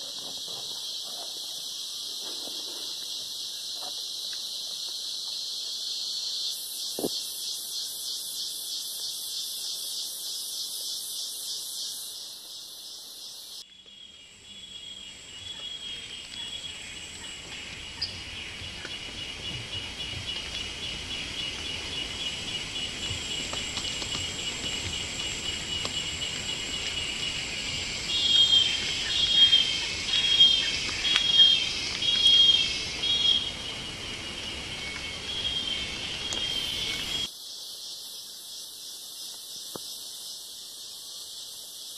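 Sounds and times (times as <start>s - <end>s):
insect buzz: 0.0s - 41.9s
insects trilling: 0.0s - 41.9s.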